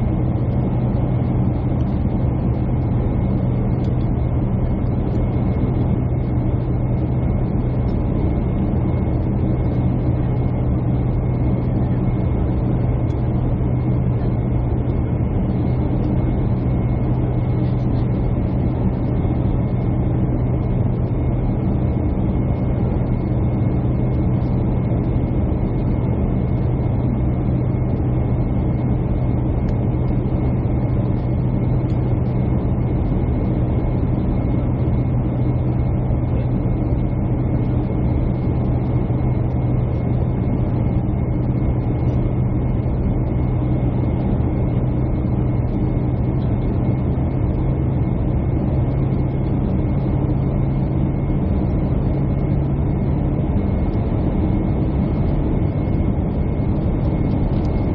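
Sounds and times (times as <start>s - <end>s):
jet airliner cabin drone: 0.0s - 57.9s.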